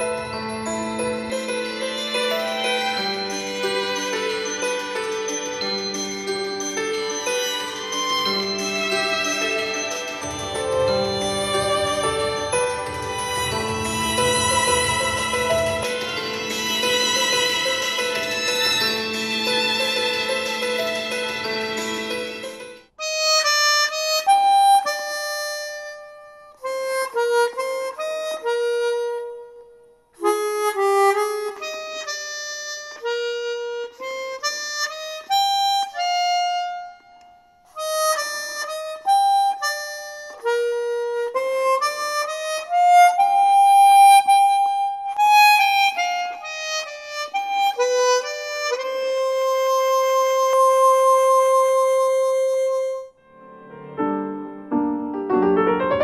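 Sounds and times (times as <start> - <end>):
harmonica melody through small speaker: 0.0 - 53.2.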